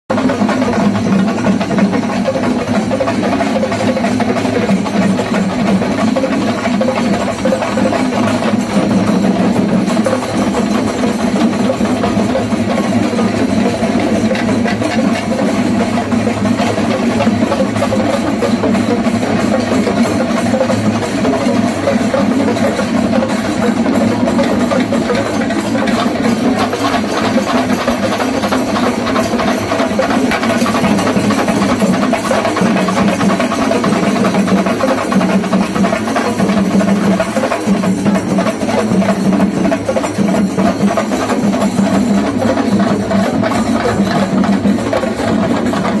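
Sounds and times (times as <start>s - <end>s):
fast drumming: 0.0s - 46.0s.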